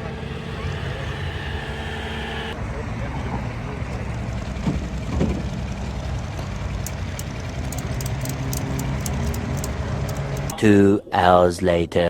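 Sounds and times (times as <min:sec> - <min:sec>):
engine humming: 0:00.0 - 0:10.7.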